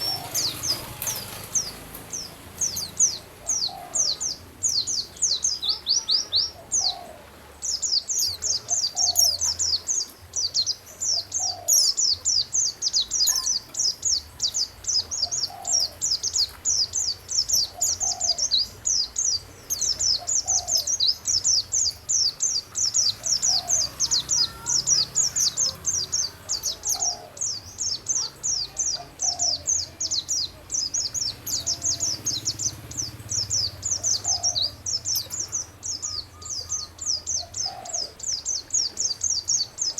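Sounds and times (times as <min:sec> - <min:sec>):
songbird high falling chirps: 0:00.0 - 0:07.1, 0:07.7 - 0:39.9.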